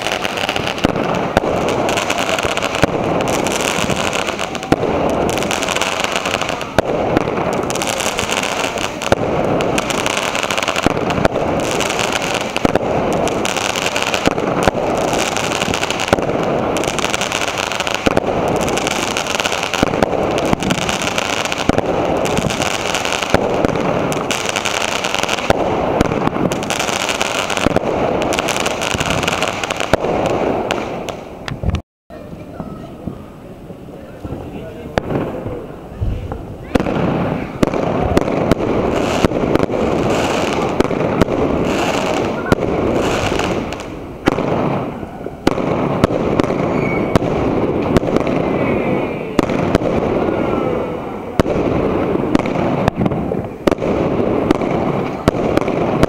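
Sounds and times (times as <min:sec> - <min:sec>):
fireworks sharp pops: 0:00.0 - 0:50.7, 0:51.3 - 0:56.0
fireworks hissing and crackling: 0:00.0 - 0:56.0.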